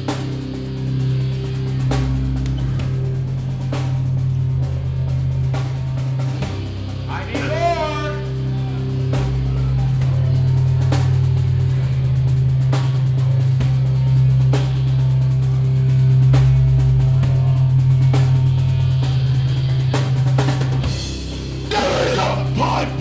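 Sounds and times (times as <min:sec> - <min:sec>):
metal band playing: 0:00.0 - 0:23.0.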